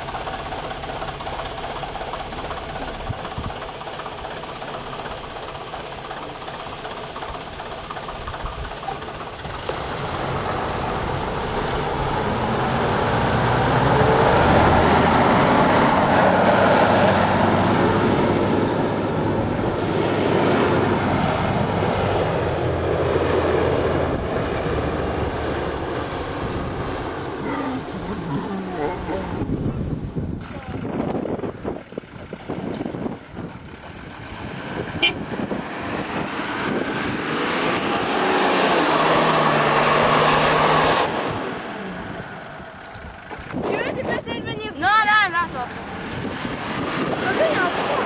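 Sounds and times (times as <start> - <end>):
four-by-four engine driving in sand: 0.0 - 48.0.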